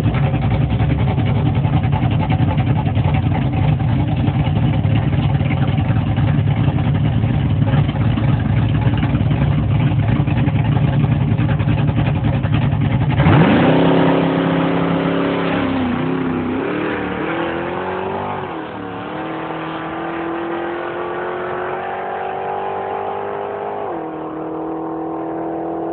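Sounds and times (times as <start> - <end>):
drag car engine revving: 0.0 - 25.9.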